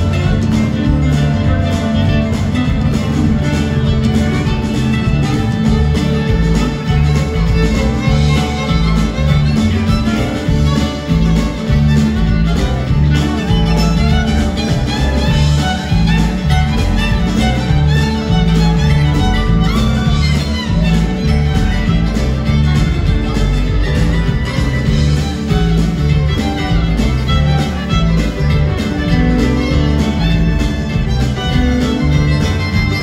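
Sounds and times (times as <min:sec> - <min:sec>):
banjo: 0:00.0 - 0:33.0
bass line: 0:00.0 - 0:33.0
drums: 0:00.0 - 0:33.0
fiddle solo: 0:00.0 - 0:33.0.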